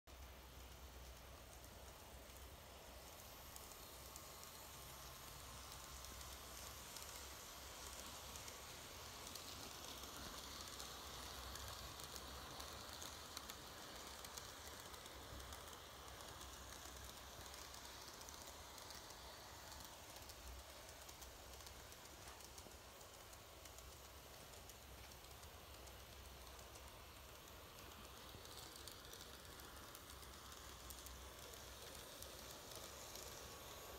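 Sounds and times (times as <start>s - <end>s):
model train running on track: 0.1s - 33.9s.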